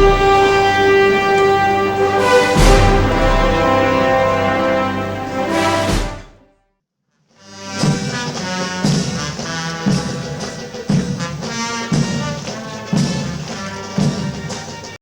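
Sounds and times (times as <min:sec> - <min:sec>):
drum beat: 0:00.0 - 0:04.9, 0:05.5 - 0:06.3, 0:07.8 - 0:15.0
brass band playing a march: 0:00.0 - 0:06.4, 0:07.6 - 0:15.0.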